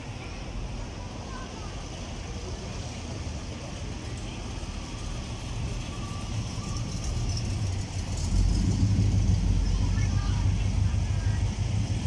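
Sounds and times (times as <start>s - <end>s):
motor vehicle engine rumble: 0.0s - 12.0s.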